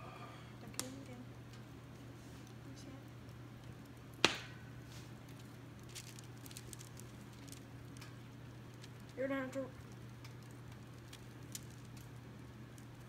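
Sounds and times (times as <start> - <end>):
low steady hum: 0.0 - 13.0
faint ticks and crackles: 0.6 - 4.2, 5.0 - 13.0.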